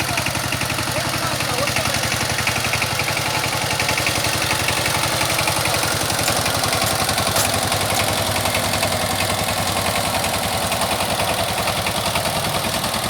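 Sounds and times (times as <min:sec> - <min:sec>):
diesel engine idling with knock: 0:00.0 - 0:13.0.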